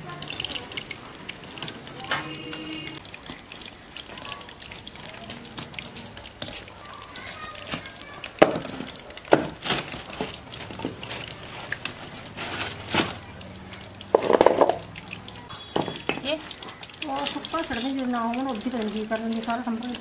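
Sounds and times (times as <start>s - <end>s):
frying: 0.0s - 20.0s.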